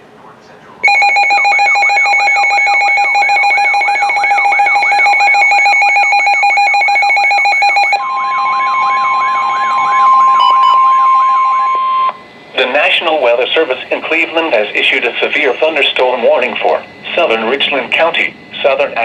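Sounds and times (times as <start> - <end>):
warbling electronic alarm: 0.8 - 19.0.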